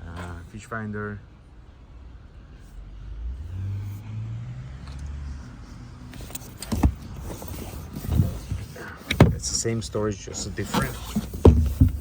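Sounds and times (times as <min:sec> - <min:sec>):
low vehicle engine hum: 0:00.0 - 0:12.0.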